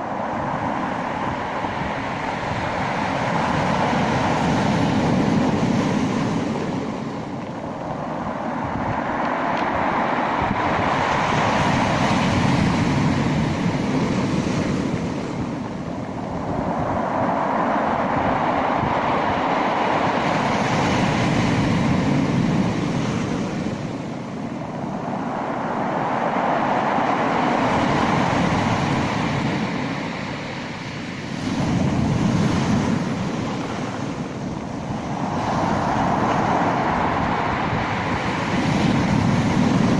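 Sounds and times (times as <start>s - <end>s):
sea waves surging: 0.0s - 39.9s.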